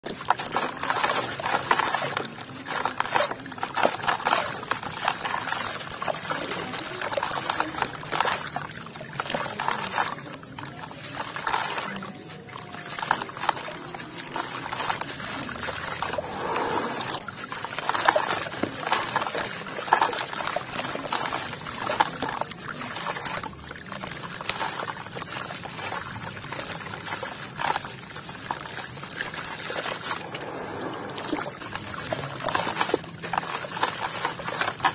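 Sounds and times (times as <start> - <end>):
water trickling: 0.0 - 34.9.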